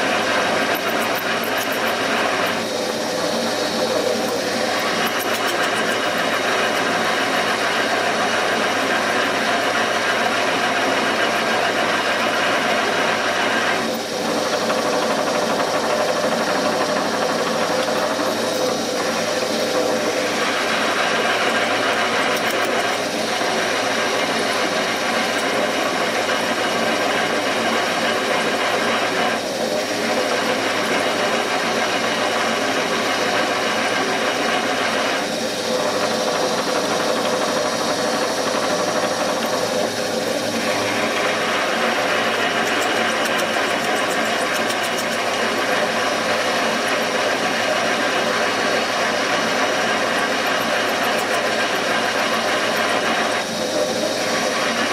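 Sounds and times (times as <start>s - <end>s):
machine spindle drilling bolt: 0.0s - 54.9s.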